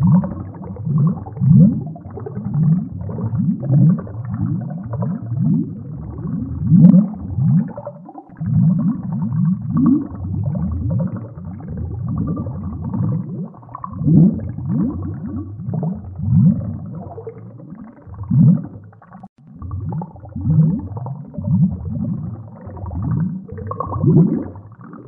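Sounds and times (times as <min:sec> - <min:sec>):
air bubbles gurgling in water: 0:00.0 - 0:25.0.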